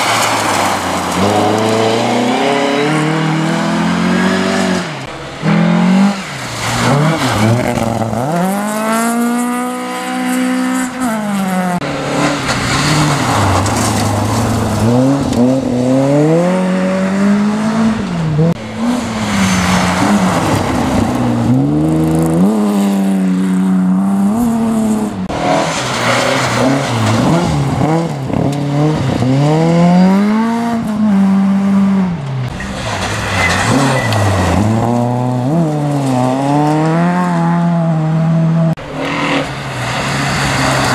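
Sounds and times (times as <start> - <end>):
tyres on gravel: 0.0 - 38.0
rally car engines revving: 0.0 - 40.9.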